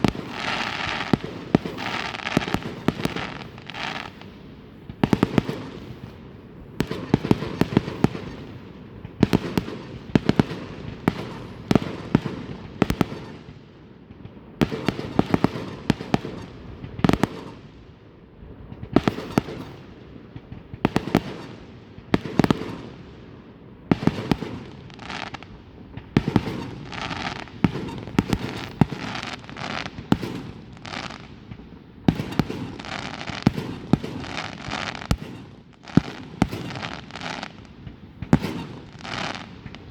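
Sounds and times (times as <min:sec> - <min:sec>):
fireworks bangs: 0:00.0 - 0:17.7, 0:18.7 - 0:23.2, 0:23.9 - 0:39.9
fireworks crackling and fizzing: 0:00.0 - 0:17.8, 0:18.6 - 0:39.9.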